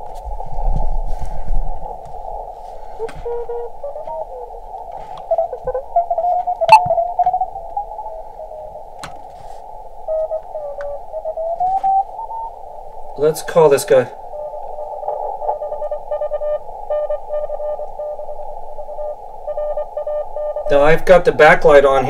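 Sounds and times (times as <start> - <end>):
radio band hiss: 0.0 - 22.0
morse code tones: 2.3 - 9.0, 10.0 - 21.6.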